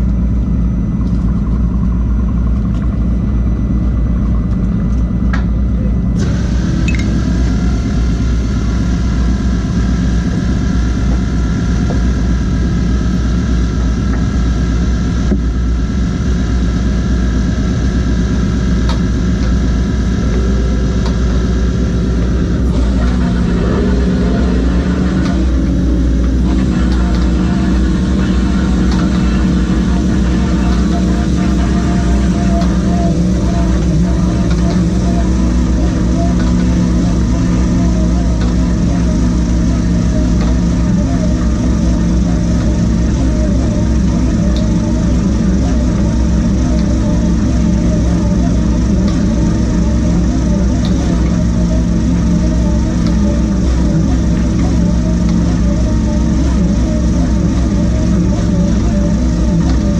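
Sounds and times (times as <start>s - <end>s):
boat engine low rumble: 0.0s - 59.9s
wavering mechanical whine: 0.0s - 59.9s.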